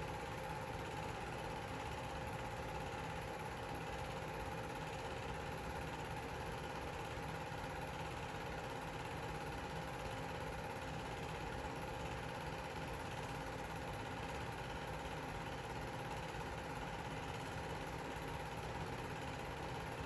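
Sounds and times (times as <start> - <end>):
film projector whirring: 0.0 - 20.0.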